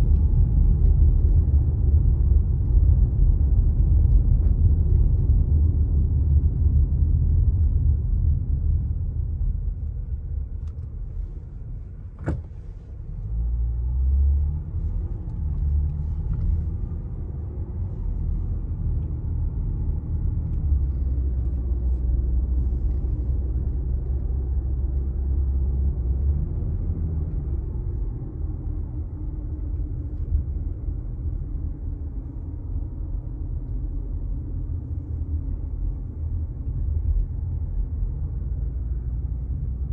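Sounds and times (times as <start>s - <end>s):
car interior road rumble: 0.0s - 39.9s.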